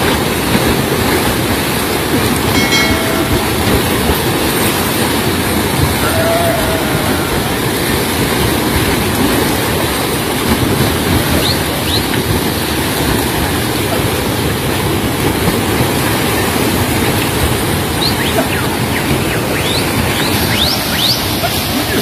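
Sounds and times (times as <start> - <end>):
river water rushing over weir: 0.0 - 22.0.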